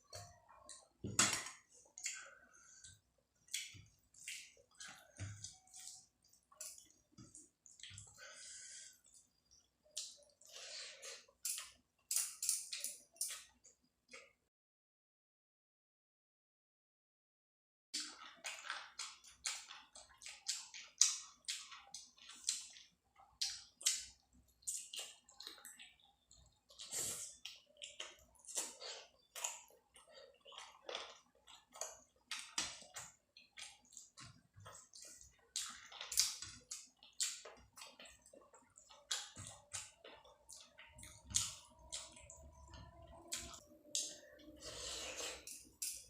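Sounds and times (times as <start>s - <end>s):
person chewing food: 0.0s - 14.4s, 18.0s - 46.0s.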